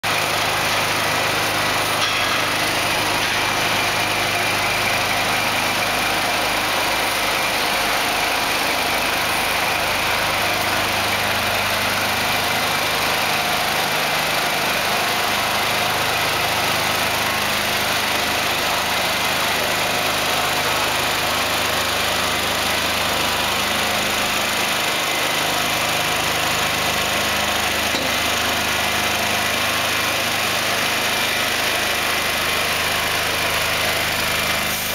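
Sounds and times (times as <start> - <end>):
diesel engine running at low revs: 0.0 - 34.9.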